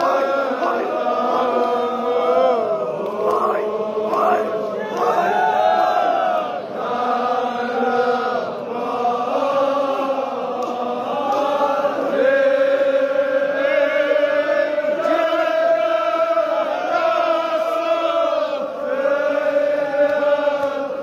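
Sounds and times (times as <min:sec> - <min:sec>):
men chanting in long held notes: 0:00.0 - 0:21.0.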